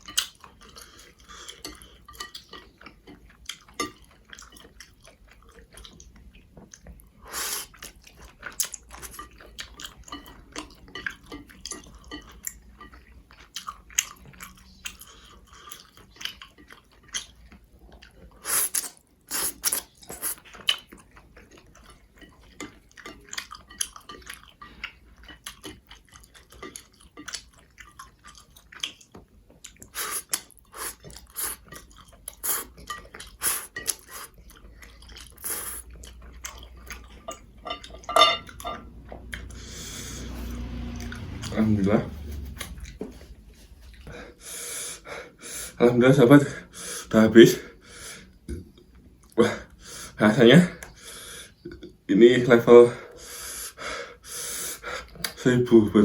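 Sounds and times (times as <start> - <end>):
person chewing noodles: 0.0 - 41.5, 42.3 - 45.8, 53.1 - 55.5.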